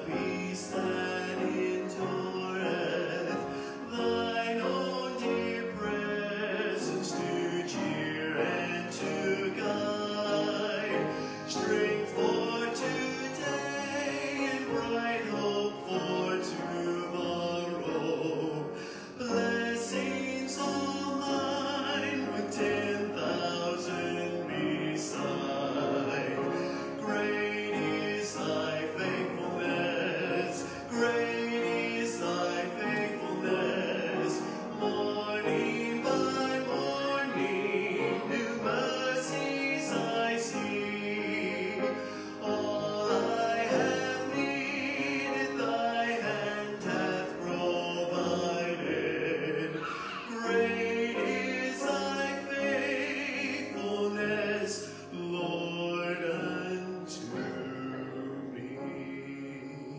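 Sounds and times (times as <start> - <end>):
classical singing with vibrato: 0.0 - 59.9
sustained instrumental accompaniment: 0.0 - 59.9.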